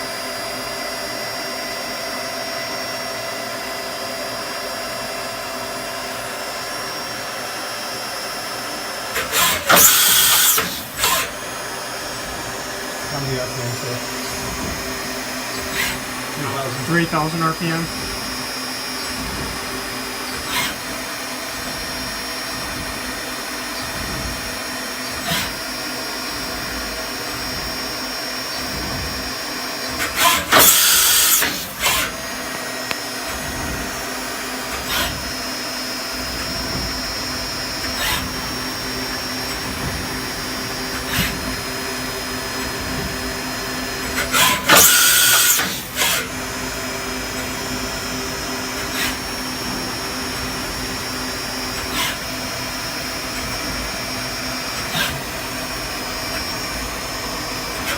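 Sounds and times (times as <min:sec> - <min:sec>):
machine spindle whining hum: 0:00.0 - 0:57.9
loud hissing bursts: 0:09.2 - 0:32.5, 0:33.2 - 0:57.9.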